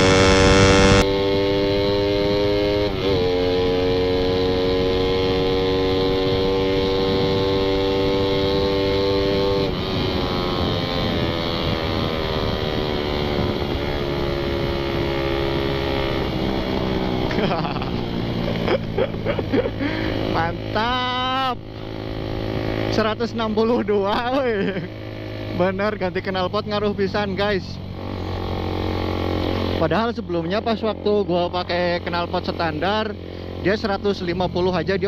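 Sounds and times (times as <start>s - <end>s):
motorcycle engine revving hard: 0.0s - 35.0s.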